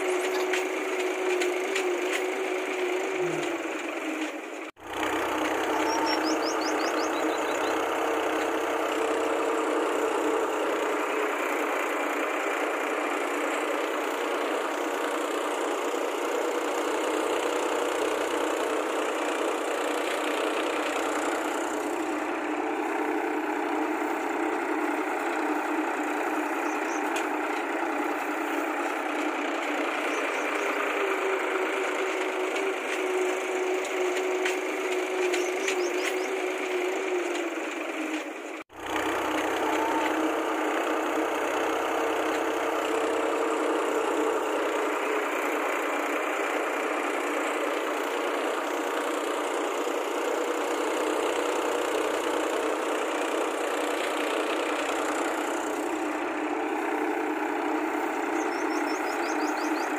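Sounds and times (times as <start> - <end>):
motor running steadily: 0.0 - 59.9.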